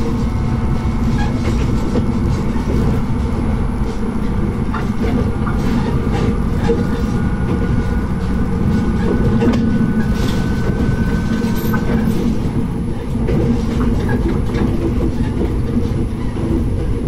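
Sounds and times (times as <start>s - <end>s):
railcar engine and wheels rumbling: 0.0s - 17.0s.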